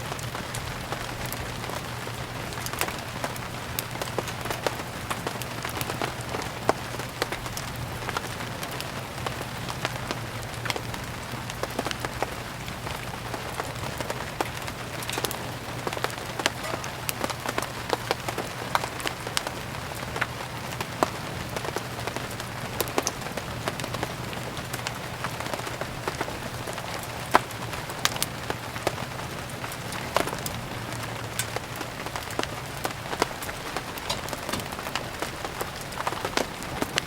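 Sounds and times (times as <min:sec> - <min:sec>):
steady rain hiss: 0:00.0 - 0:37.0
wood fire crackling and popping: 0:00.0 - 0:37.0.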